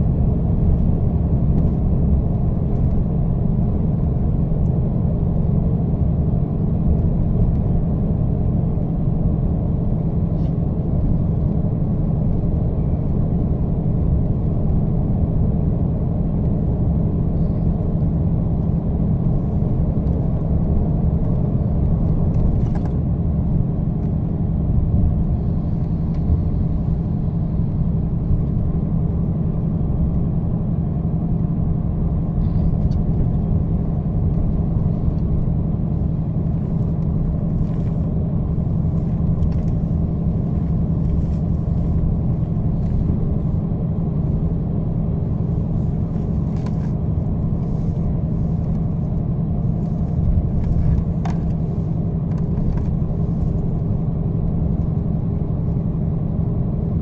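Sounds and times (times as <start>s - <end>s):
low engine and road drone: 0.0s - 57.0s.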